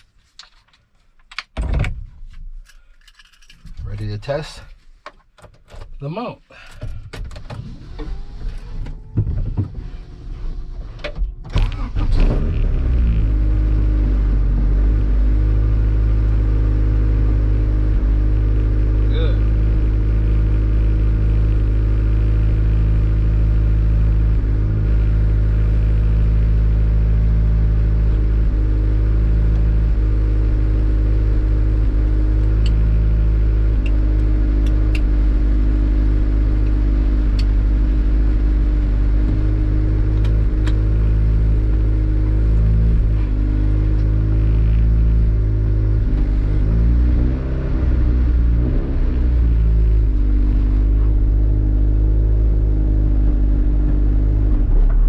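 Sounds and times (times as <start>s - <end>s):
car engine drone inside cabin: 3.7s - 55.0s.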